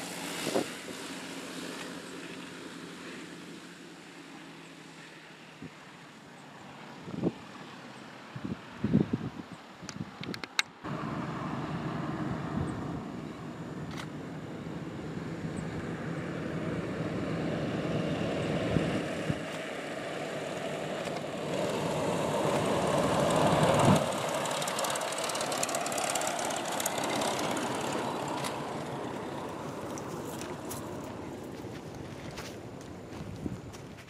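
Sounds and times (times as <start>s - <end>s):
twin-engine plane passing: 0.0s - 9.8s, 10.5s - 34.0s.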